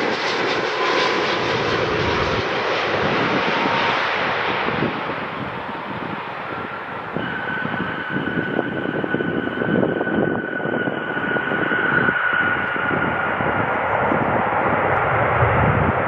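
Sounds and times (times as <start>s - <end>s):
jet engine high whine: 0.0s - 16.0s
jet engines roaring: 0.0s - 16.0s.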